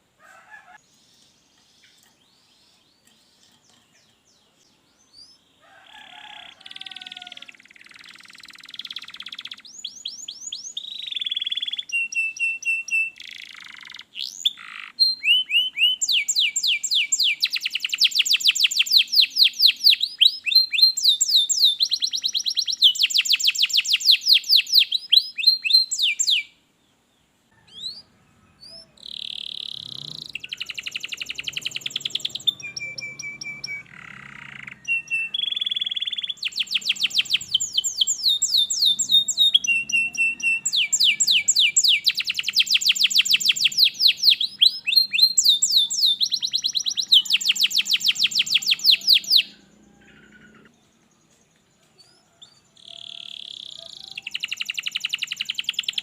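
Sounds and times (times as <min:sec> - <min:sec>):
canary singing: 0:00.2 - 0:26.6, 0:27.6 - 0:51.1, 0:51.9 - 0:56.0.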